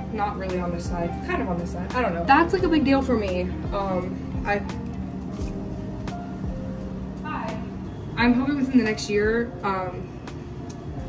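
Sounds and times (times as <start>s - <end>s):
soft background music: 0.0s - 11.0s
steady low hum: 0.0s - 11.0s.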